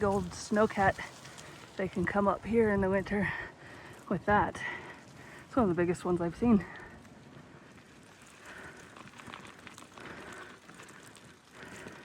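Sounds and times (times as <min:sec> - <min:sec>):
bicycle tyres rolling on wet gravel: 0:00.0 - 0:12.0.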